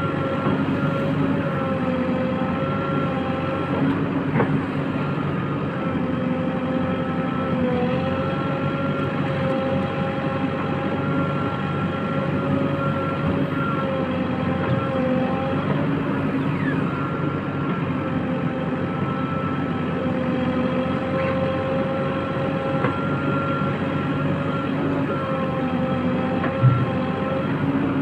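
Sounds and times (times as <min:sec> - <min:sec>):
diesel engine running: 0:00.0 - 0:28.0
hydraulic whine: 0:00.0 - 0:28.0.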